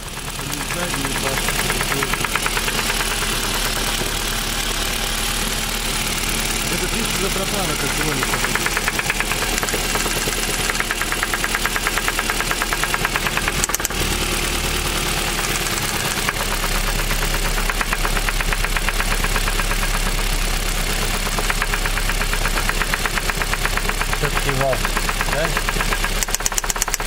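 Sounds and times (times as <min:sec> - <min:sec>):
car engine with rhythmic knock: 0:00.0 - 0:27.0.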